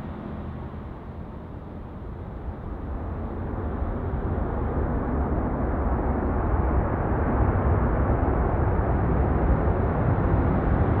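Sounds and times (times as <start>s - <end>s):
jet airliner engine noise: 0.0s - 11.0s.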